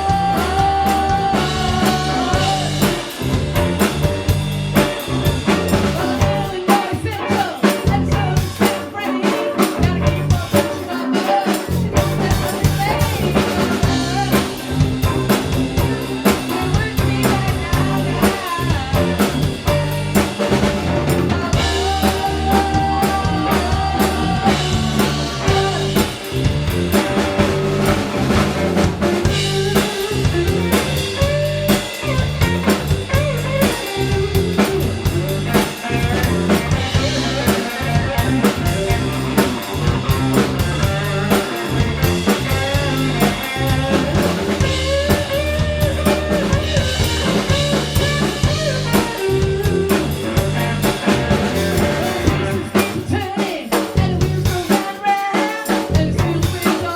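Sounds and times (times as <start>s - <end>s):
bass and guitar: 0.0s - 54.7s, 55.8s - 56.9s
drum kit beat: 0.0s - 56.9s.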